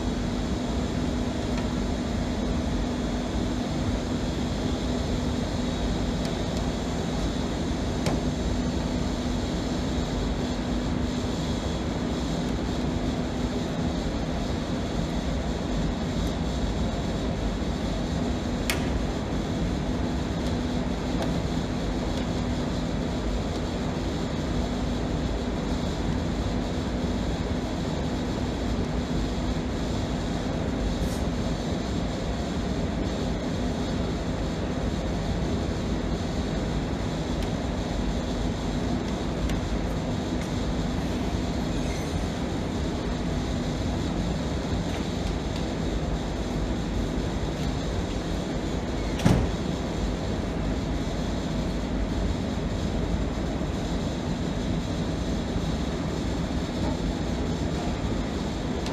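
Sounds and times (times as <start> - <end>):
machine humming and hissing: 0.0 - 58.9.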